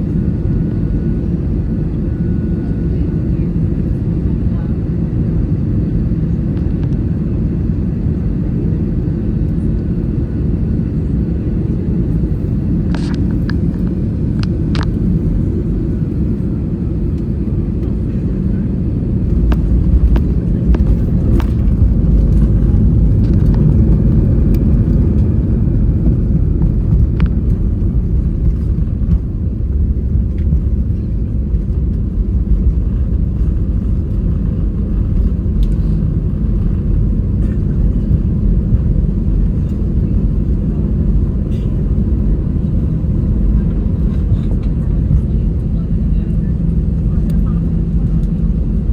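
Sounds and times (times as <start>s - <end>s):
airplane cabin engine rumble: 0.0s - 48.9s.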